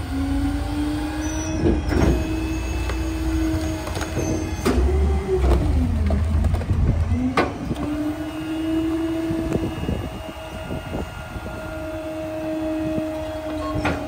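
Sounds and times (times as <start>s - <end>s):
deep engine rumble: 0.0s - 14.0s
garbage truck hydraulics whine: 0.0s - 14.0s.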